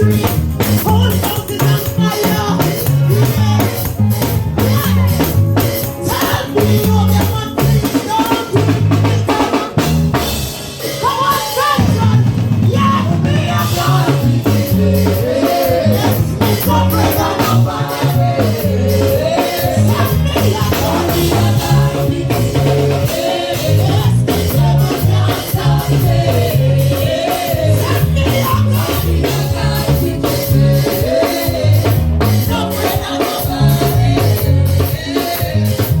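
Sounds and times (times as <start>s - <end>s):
drum kit and bass beat: 0.0s - 36.0s.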